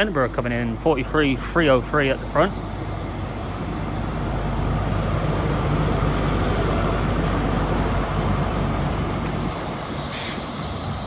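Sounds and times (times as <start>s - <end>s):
diesel engine drone: 0.0s - 11.0s
train wheel and rail noise: 0.0s - 11.0s.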